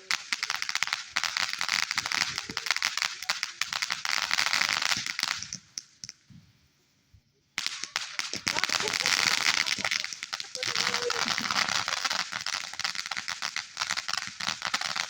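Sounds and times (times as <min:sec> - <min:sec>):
fireworks crackling: 0:00.0 - 0:06.4, 0:07.6 - 0:15.0.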